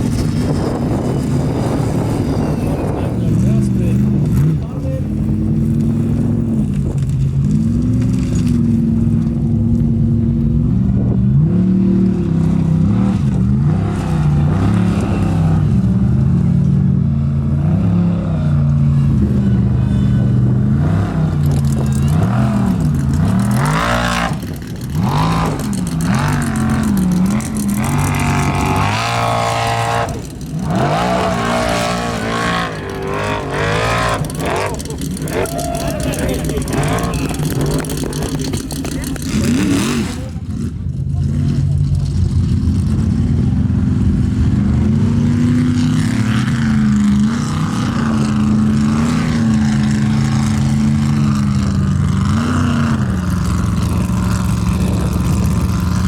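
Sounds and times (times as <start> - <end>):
race truck engine revving: 0.0 - 56.0.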